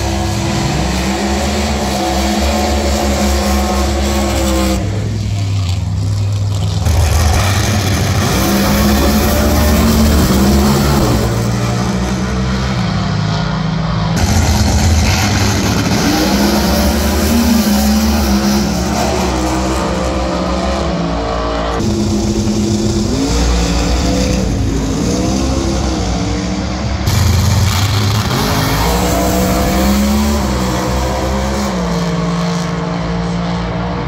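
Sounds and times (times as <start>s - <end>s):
drag racing car engines revving: 0.0s - 34.0s.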